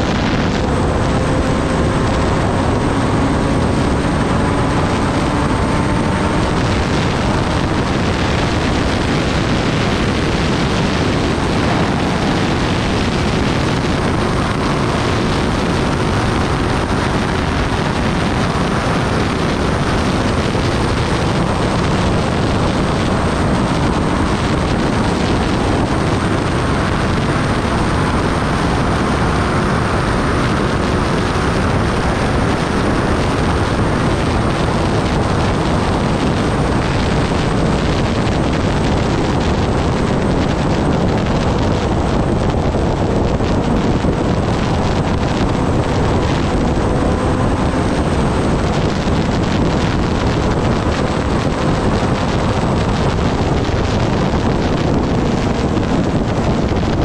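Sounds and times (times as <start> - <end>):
motorcycle engine running steadily: 0.0 - 57.0
wind rush on microphone: 0.0 - 57.0.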